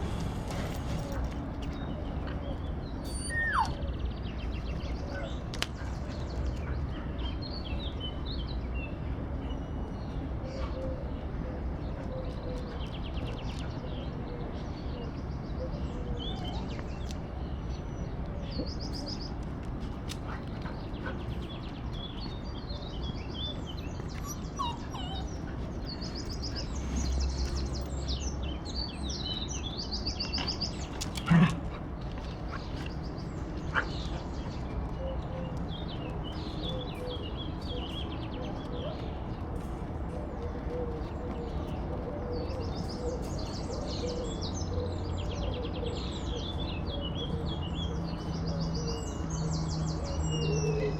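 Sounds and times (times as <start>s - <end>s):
songbirds chirping and trilling: 0.0s - 50.9s.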